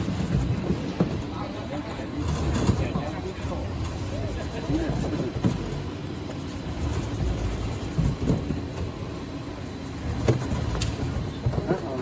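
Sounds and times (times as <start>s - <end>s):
machine low mechanical rumble: 0.0s - 12.0s.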